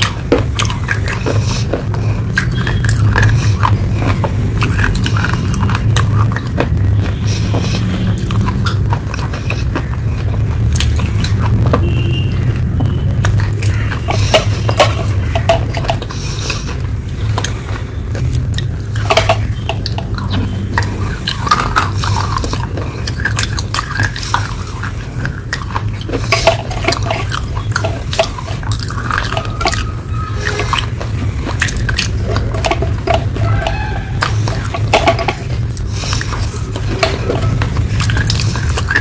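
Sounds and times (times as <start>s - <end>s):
chewing crunches: 0.0s - 39.0s
steady low hum: 0.0s - 39.0s
wet mouth sounds: 0.0s - 39.0s.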